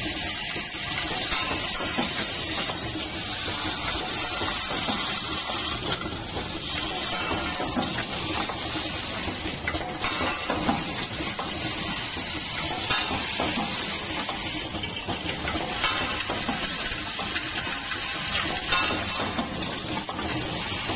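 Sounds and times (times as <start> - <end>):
machine hiss and rattle: 0.0 - 20.9.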